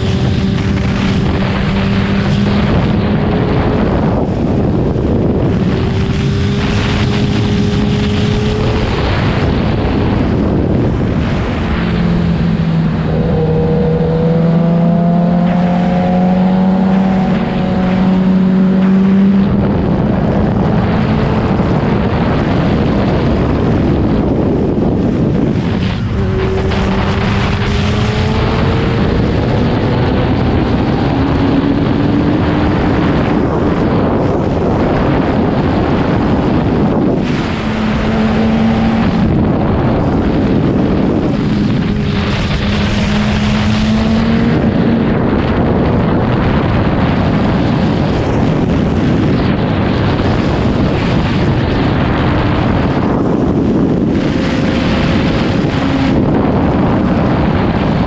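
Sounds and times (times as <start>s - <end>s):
motorcycle engine accelerating: 0.0s - 58.0s
wind rush over microphone: 0.0s - 58.0s.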